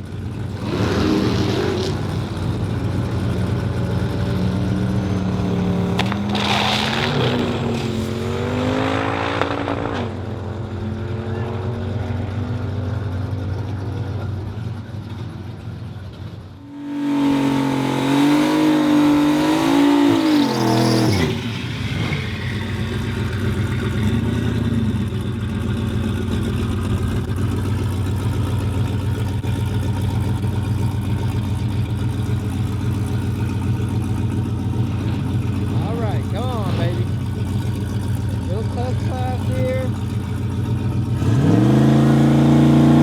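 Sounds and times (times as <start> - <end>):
car engine revving: 0.2 - 14.3, 16.2 - 43.0.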